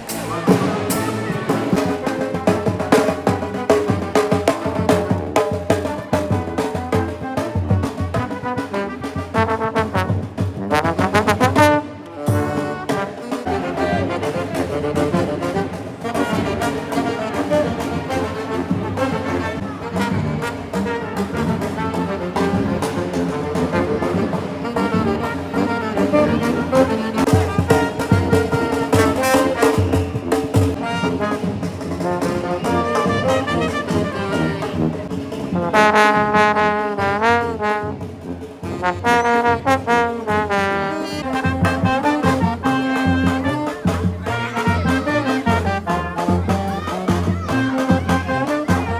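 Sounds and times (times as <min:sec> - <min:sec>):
street brass band playing: 0:00.0 - 0:48.9.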